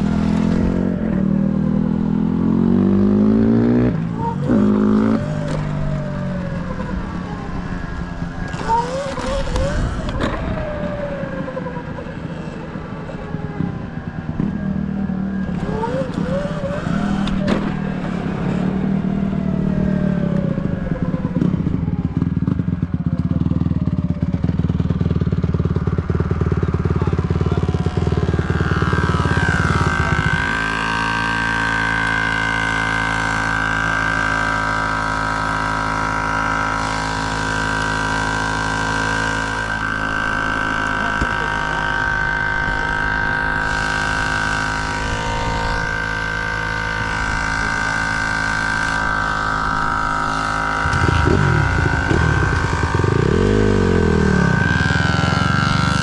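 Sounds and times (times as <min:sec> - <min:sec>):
dirt bike engine running: 0:00.0 - 0:56.0
high engine whine: 0:00.0 - 0:56.0.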